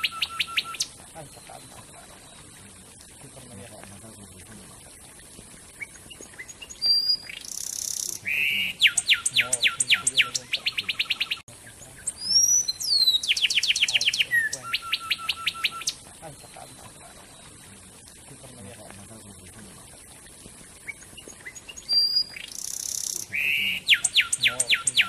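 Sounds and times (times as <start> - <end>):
wren singing: 0.0 - 4.6, 5.7 - 19.6, 20.8 - 25.0.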